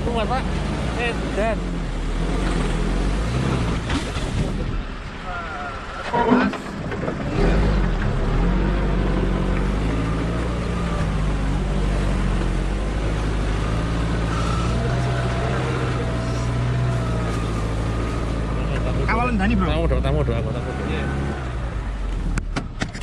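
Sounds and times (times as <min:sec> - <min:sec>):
off-road vehicle engine under load: 0:00.0 - 0:23.0.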